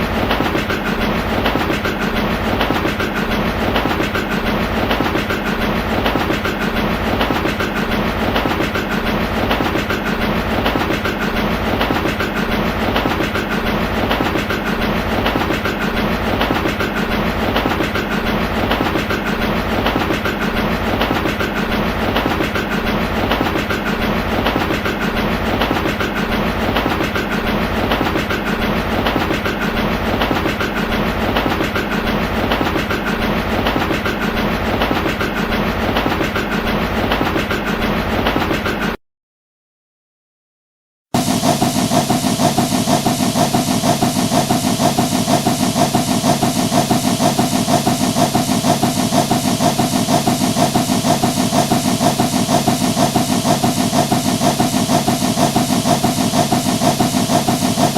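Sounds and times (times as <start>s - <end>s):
train wheels clickety-clack: 0.0s - 39.0s, 41.2s - 57.9s.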